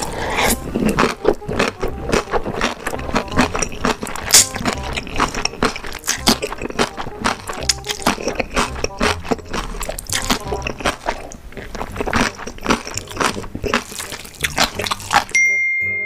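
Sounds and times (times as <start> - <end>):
wet slurping and chewing: 0.0 - 15.4
sticky mouth clicks and smacks: 0.3 - 15.4.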